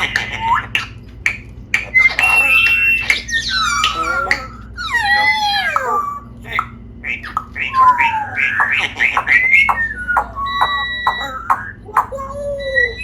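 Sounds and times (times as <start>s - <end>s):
parrot chattering and squawk: 0.0s - 13.0s
parrot whistle: 1.8s - 13.0s.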